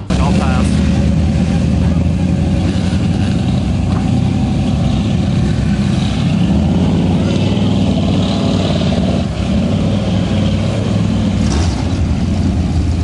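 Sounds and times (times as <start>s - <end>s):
tires churning through mud: 0.0s - 13.0s
truck engine running: 0.0s - 13.0s.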